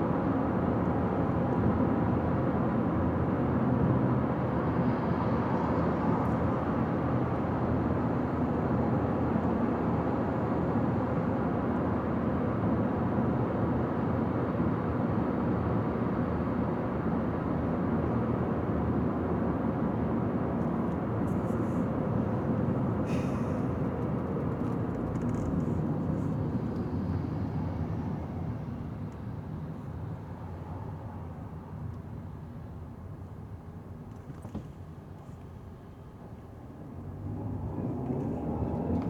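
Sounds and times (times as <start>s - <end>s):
car driving on highway: 0.0s - 39.0s.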